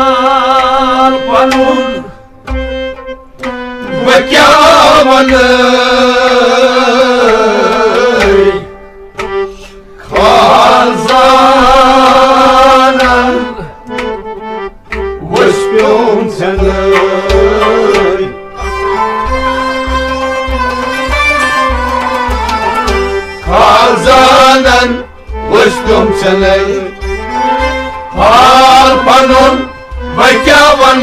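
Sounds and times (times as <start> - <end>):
tabla drumming: 3.4 - 9.5, 10.1 - 14.2, 14.9 - 31.0.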